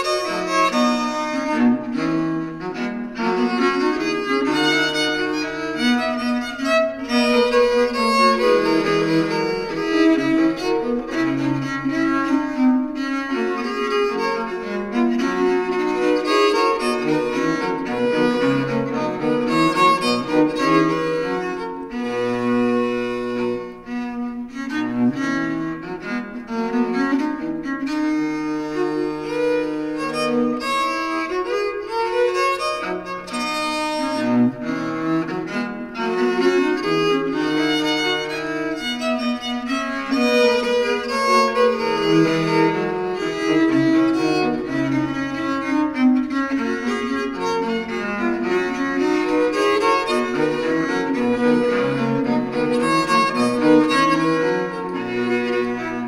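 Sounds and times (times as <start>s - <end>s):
viols playing: 0.0s - 56.0s.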